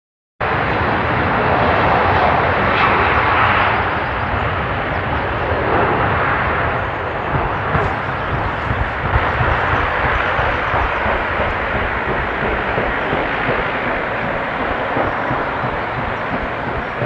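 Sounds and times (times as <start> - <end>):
jet engines running: 0.4 - 17.0.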